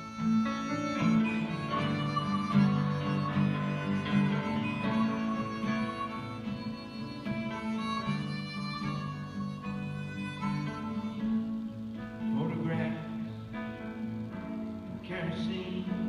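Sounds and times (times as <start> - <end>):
harmonica solo: 0.0 - 15.0
acoustic guitar accompaniment: 0.0 - 16.0.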